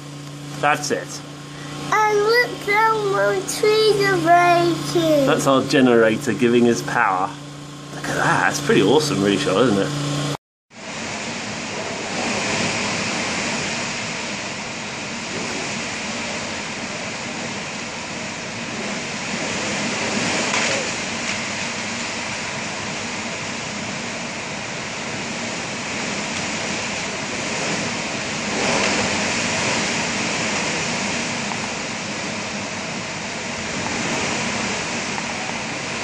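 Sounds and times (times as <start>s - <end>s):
driving rain: 0.0s - 7.3s, 10.8s - 36.0s.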